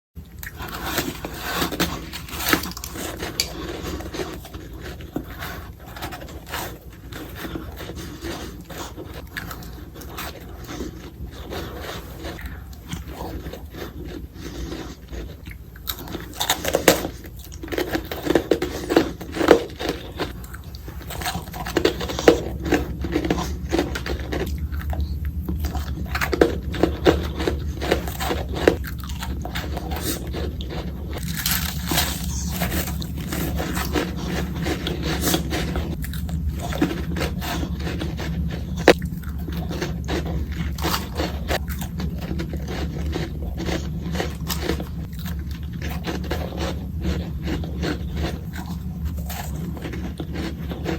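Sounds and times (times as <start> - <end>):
chewing: 0.2 - 50.9
ice crunching between teeth: 0.3 - 50.9.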